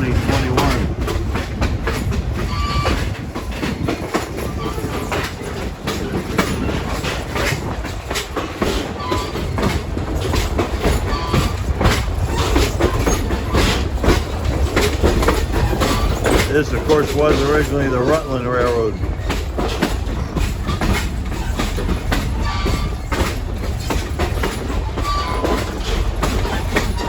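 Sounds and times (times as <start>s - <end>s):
train ride rumble: 0.0s - 27.0s
wheels clicking over rails: 0.0s - 27.0s.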